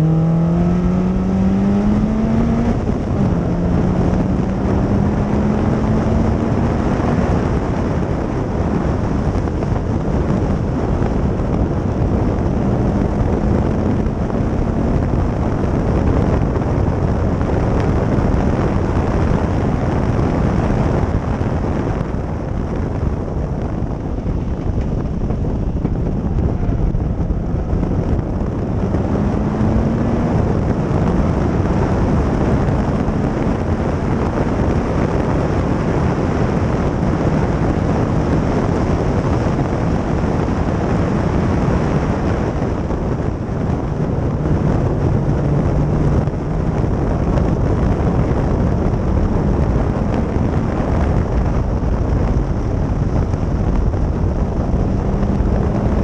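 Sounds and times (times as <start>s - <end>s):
race car engine at speed: 0.0s - 56.0s
wind noise on microphone: 0.0s - 56.0s.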